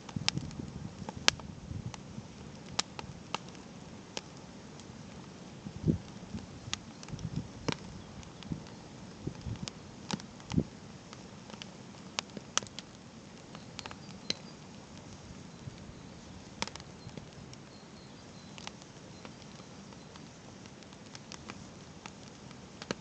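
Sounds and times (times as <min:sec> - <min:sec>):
campfire crackling: 0:00.0 - 0:23.0
faint steady hiss: 0:00.0 - 0:23.0.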